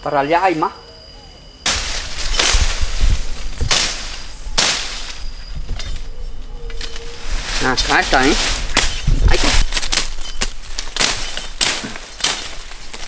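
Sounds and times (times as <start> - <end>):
stems and leaves crackling: 1.6 - 13.0
machete swishing through brush: 1.7 - 6.1, 6.8 - 13.0.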